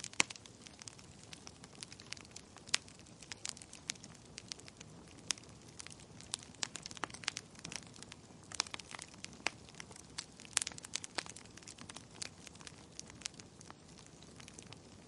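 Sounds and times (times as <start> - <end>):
low steady hiss: 0.0 - 15.0
wood fire crackling and popping: 0.0 - 15.0.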